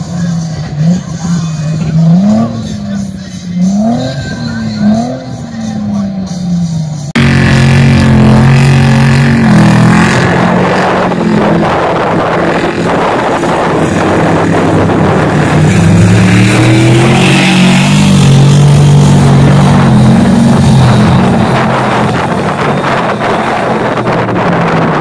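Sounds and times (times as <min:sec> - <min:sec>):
truck engine revving high: 0:00.0 - 0:25.0.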